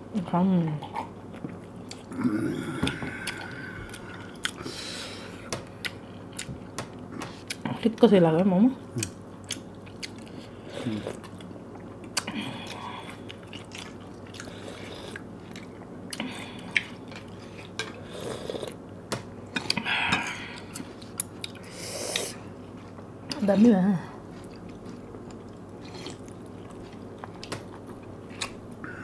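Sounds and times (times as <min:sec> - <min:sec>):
people chewing: 0:01.0 - 0:07.9, 0:08.9 - 0:18.8, 0:19.5 - 0:23.4, 0:24.2 - 0:29.0.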